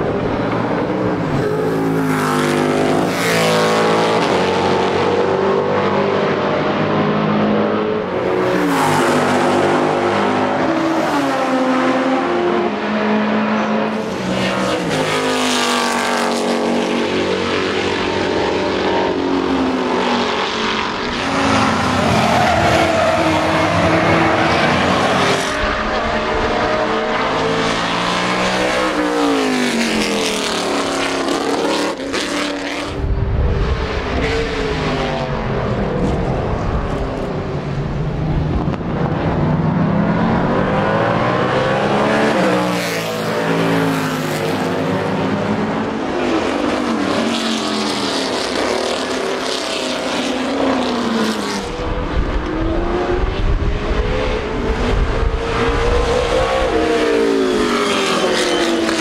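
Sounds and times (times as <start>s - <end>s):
race cars passing at speed: 0.0s - 59.0s.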